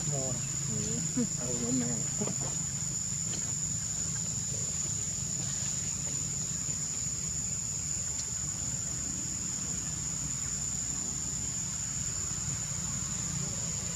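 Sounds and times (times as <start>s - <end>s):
insects droning: 0.0s - 13.9s.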